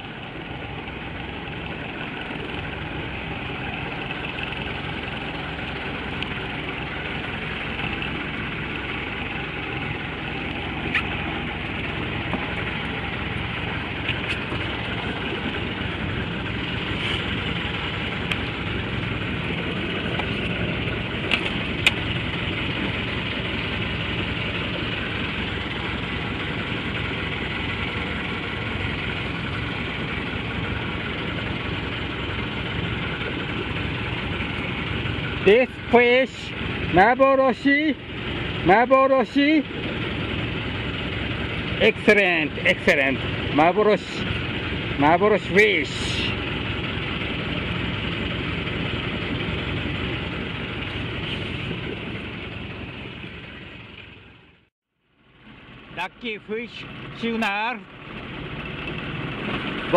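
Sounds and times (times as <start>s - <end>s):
boat engine idling: 0.0s - 59.9s.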